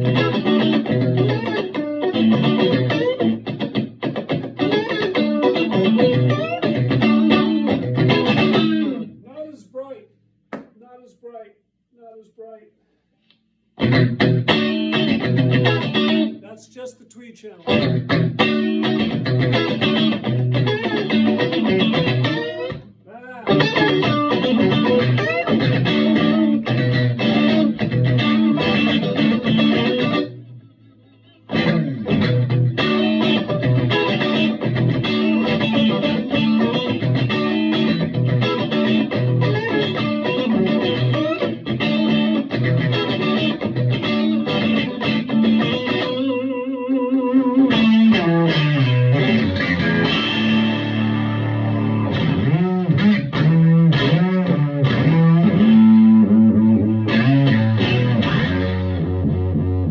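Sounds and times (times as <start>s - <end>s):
overdriven electric guitar: 0.0s - 9.2s, 13.8s - 16.4s, 17.6s - 59.9s.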